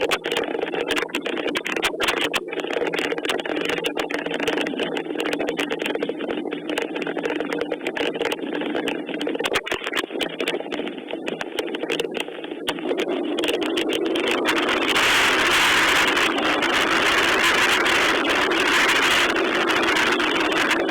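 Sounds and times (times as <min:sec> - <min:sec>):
raindrop clicks: 0:00.0 - 0:20.9.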